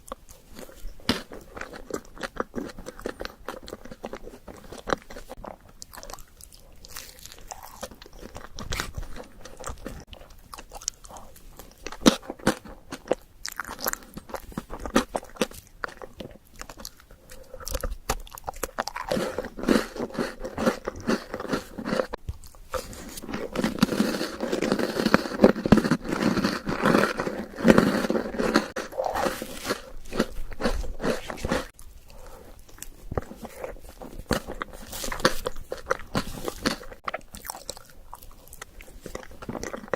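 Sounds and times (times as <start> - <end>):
person crunching and chewing: 0.0 - 39.9.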